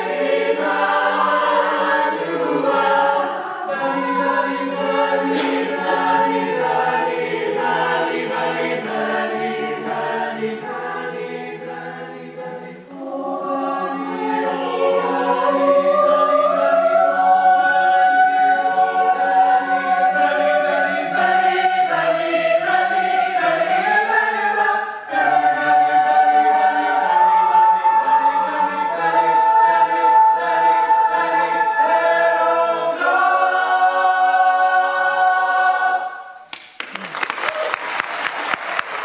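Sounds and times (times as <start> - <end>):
choir singing sustained chords: 0.0 - 36.4.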